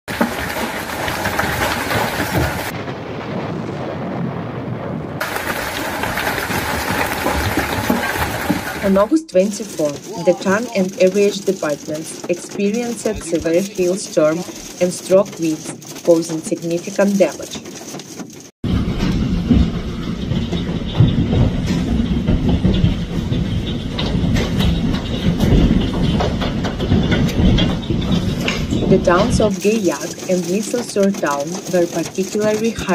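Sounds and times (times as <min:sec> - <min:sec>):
hail clattering on paving: 0:00.1 - 0:03.5, 0:05.2 - 0:32.9.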